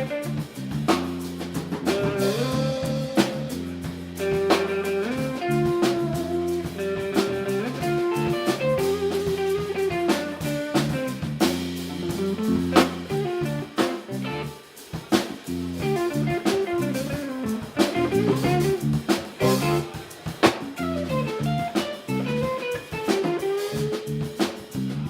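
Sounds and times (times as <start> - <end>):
drum kit playing: 0.0 - 25.0
guitar playing: 1.3 - 14.6, 15.6 - 20.1, 20.8 - 24.2.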